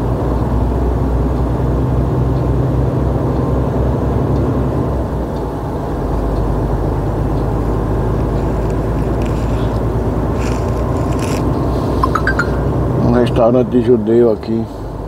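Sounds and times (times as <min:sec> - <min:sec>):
road noise inside cab: 0:00.0 - 0:15.0
truck engine rumbling: 0:00.0 - 0:15.0.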